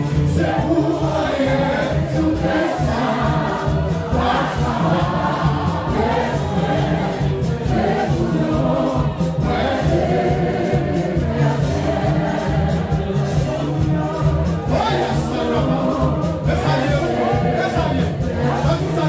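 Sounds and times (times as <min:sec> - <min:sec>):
band accompaniment: 0:00.0 - 0:19.0
bass line: 0:00.0 - 0:19.0
drums: 0:00.0 - 0:19.0
group singing gospel song: 0:00.0 - 0:19.0.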